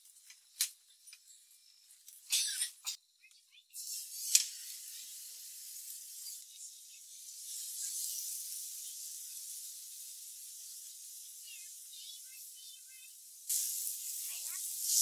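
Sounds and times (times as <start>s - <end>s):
pineapple sizzling on griddle: 0.0s - 15.0s.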